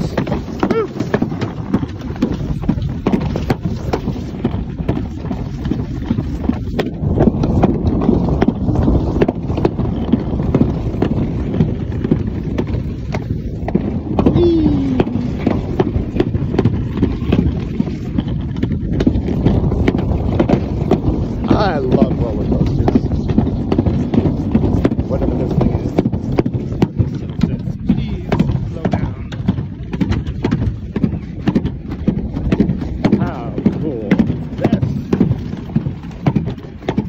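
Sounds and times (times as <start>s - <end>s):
sled clicking and knocking: 0.0s - 37.0s
sled rumbling down track: 0.0s - 37.0s.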